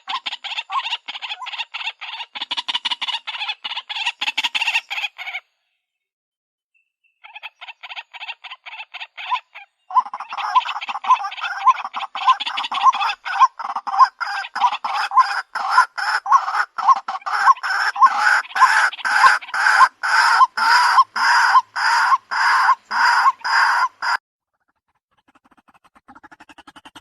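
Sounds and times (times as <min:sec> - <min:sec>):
harsh bird call recording: 0:00.0 - 0:05.9, 0:06.7 - 0:27.0.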